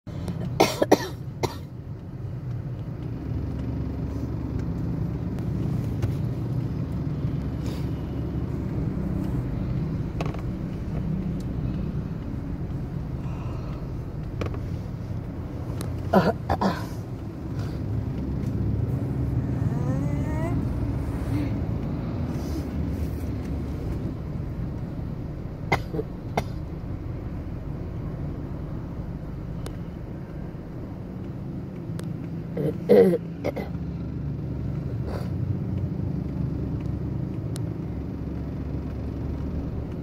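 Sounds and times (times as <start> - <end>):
traffic rumble: 0.0 - 40.0.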